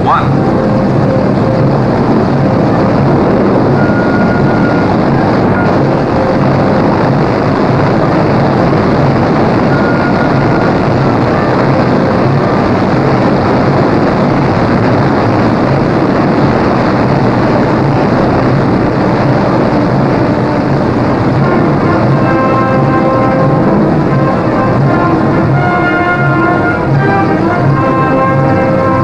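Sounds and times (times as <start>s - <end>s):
piston aircraft engines running: 0.0s - 29.0s.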